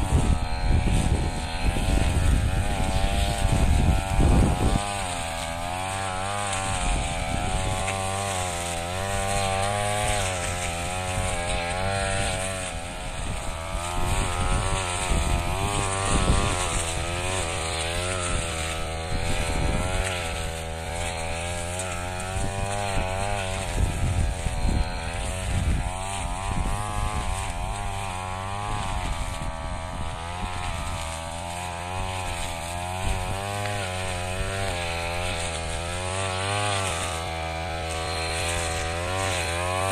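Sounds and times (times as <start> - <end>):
brush cutter engine cutting straw: 0.0 - 39.9.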